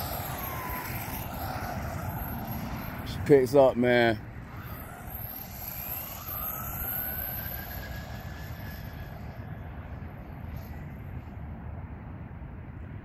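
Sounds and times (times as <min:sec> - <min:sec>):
electric motor whine: 0:00.0 - 0:11.4.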